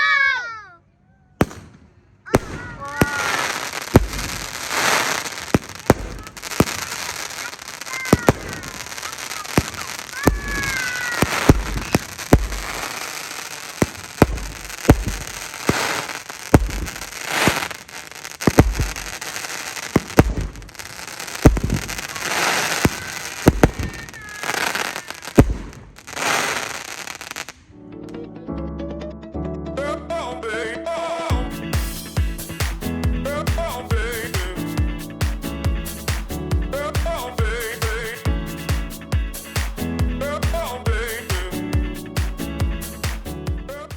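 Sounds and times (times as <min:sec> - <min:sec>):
fireworks reports with deep thumps: 0:01.4 - 0:27.6, 0:31.3 - 0:43.9
fireworks crackling burst: 0:01.4 - 0:27.7, 0:31.3 - 0:43.9.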